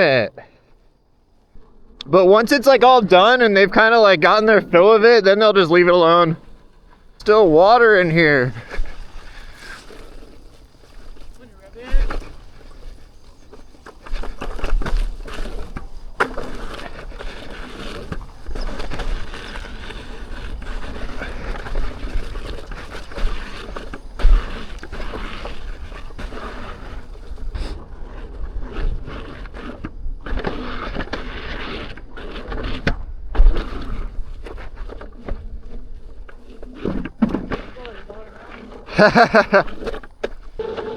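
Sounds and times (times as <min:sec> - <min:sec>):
tyre rumbling over dirt: 0:00.0 - 0:40.9.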